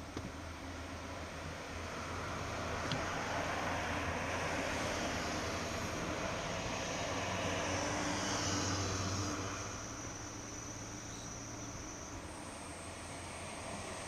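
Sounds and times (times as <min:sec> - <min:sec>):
distant engine rushing: 0:01.4 - 0:14.0
faint high insect trill: 0:01.8 - 0:14.0.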